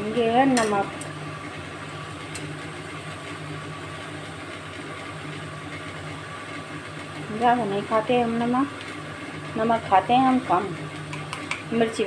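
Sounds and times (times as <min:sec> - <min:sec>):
low mechanical hum with hiss: 0:00.0 - 0:12.0.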